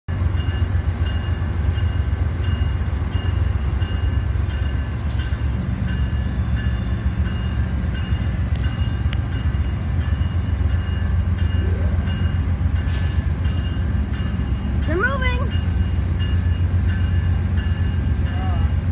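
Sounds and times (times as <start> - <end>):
diesel locomotive rumbling: 0.1 - 18.9.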